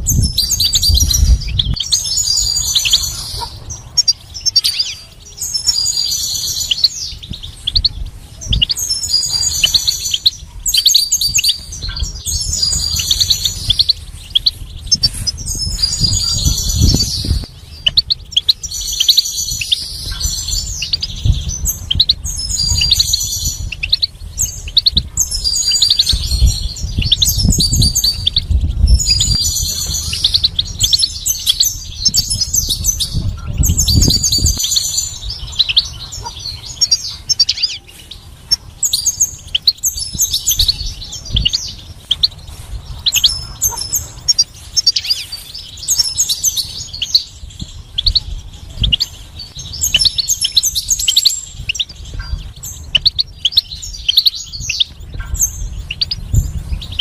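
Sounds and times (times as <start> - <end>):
goldfinch twittering song: 0.0 - 57.0
low rumble: 0.0 - 57.0.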